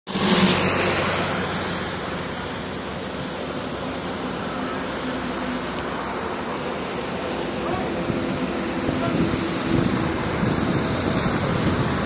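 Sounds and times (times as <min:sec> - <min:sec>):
truck engine hum: 0:00.1 - 0:12.0
truck tyres hissing on wet road: 0:00.1 - 0:12.0.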